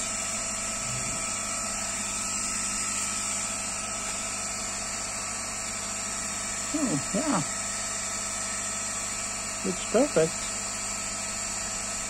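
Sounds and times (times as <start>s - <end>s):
cooling fans humming and whining: 0.0s - 12.0s.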